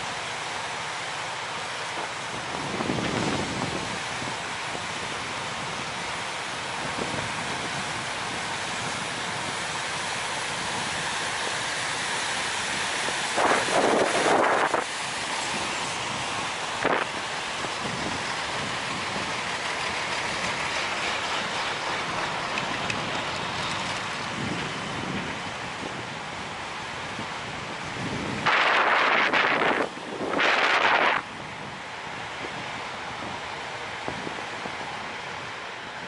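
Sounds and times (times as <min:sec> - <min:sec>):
wind buffeting microphone: 0:02.0 - 0:36.0.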